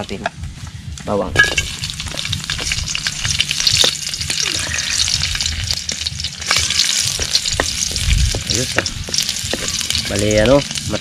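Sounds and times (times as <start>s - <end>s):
garlic sizzling in oil: 1.4s - 11.0s.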